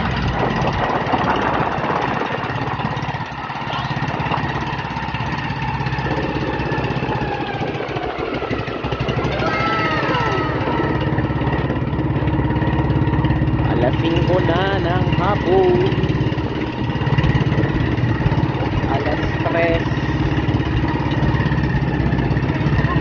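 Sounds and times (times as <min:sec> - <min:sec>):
boat engine chugging: 0:00.0 - 0:23.0.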